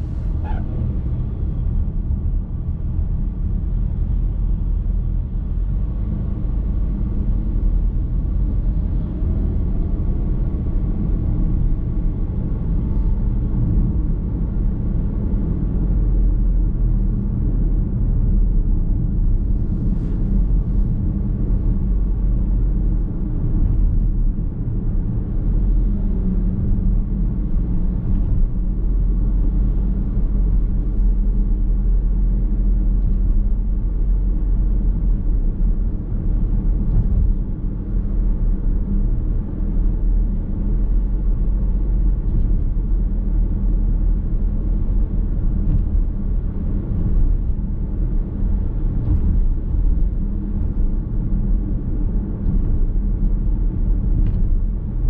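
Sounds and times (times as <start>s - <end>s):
car road noise inside cabin: 0.0s - 55.0s.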